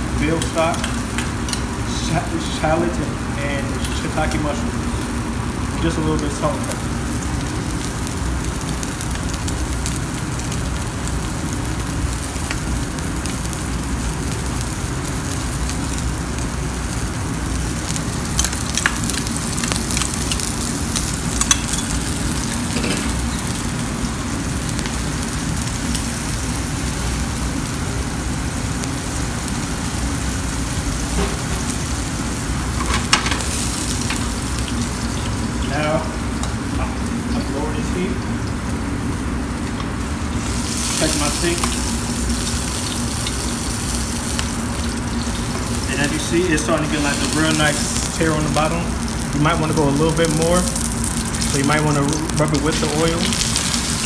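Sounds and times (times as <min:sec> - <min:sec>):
steak sizzling in a skillet: 0:00.0 - 0:54.0.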